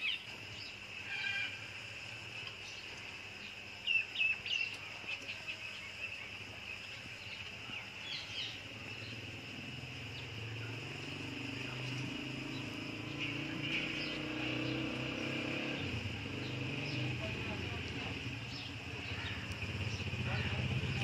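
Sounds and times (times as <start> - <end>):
insect chorus buzzing: 0.0 - 21.0.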